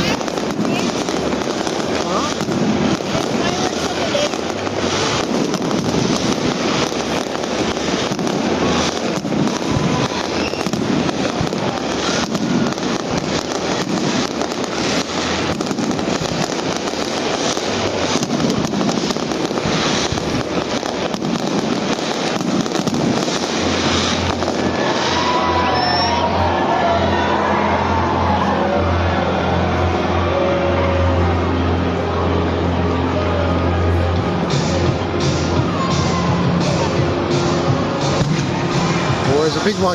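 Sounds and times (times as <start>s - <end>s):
faint music: 0.0s - 39.9s
fireworks bangs and crackles: 0.0s - 39.9s.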